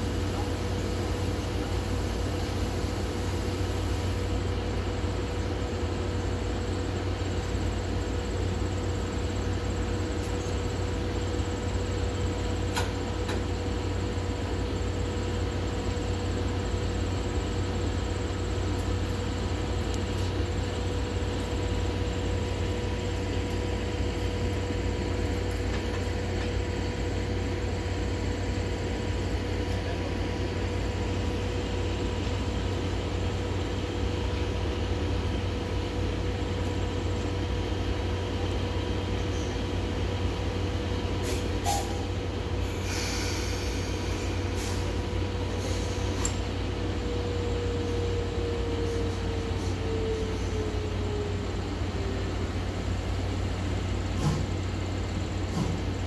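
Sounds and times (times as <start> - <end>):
steam locomotive hiss and hum: 0.0 - 56.0.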